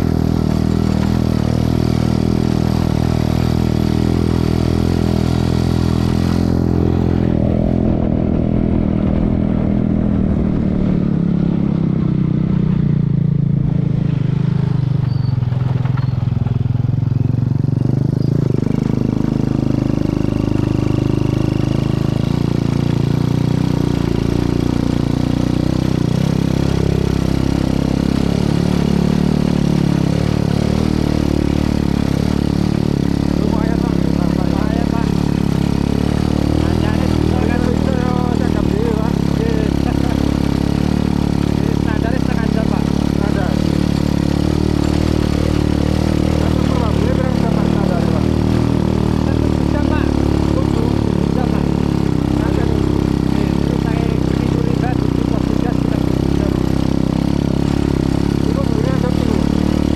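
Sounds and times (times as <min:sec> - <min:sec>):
vehicle engine running under load: 0:00.0 - 0:59.9.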